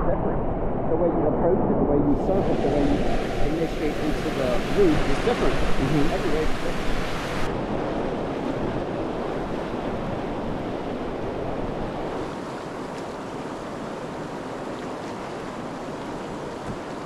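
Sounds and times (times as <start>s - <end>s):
whitewater rushing: 1.7s - 17.0s.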